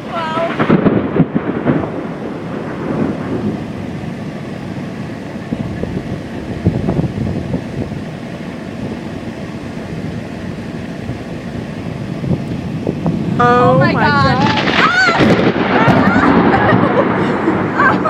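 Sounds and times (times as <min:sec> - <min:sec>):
low rolling thunder: 0:00.0 - 0:18.0
wind buffeting microphone: 0:00.0 - 0:18.0.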